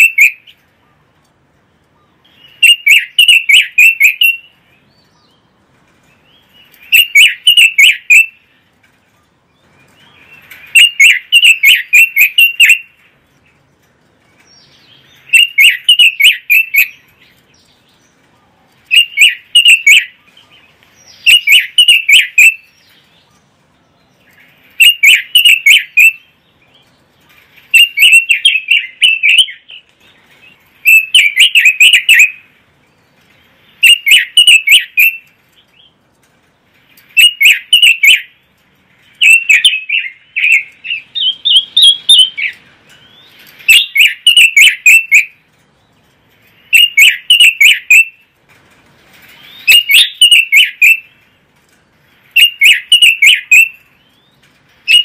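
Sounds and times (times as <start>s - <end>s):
bird singing warbling phrases: 0.0s - 1.2s, 1.9s - 36.0s, 36.9s - 38.4s, 39.0s - 46.0s, 46.6s - 48.2s, 49.3s - 51.2s, 52.2s - 55.0s.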